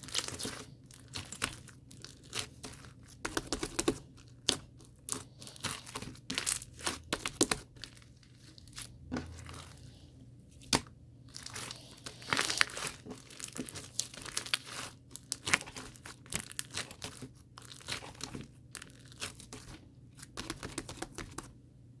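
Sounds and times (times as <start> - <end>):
crinkling handling noise: 0.0 - 21.6.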